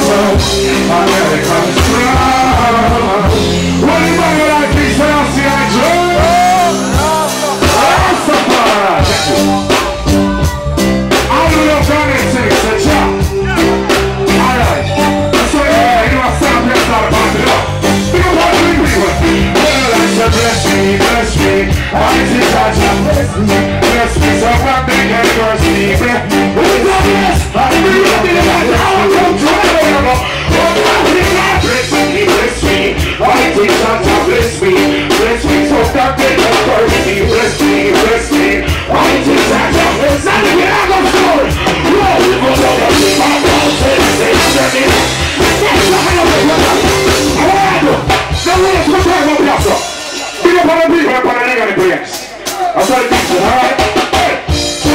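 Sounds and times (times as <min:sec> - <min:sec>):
electric guitar: 0:00.0 - 0:50.4
drum kit: 0:00.0 - 0:54.9
keyboards: 0:00.0 - 0:54.9
man singing into a microphone: 0:00.0 - 0:54.9
reggae band playing: 0:00.0 - 0:54.9.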